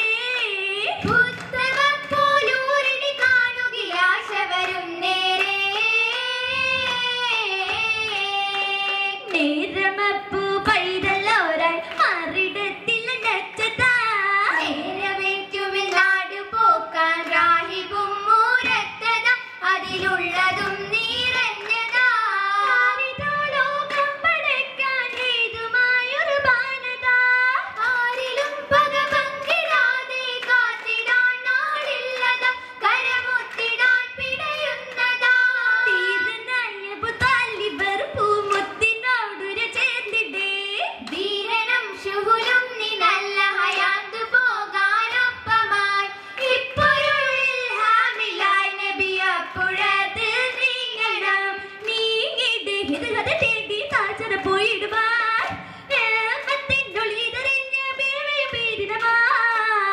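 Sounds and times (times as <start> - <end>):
girls singing into microphones: 0.0 - 59.9.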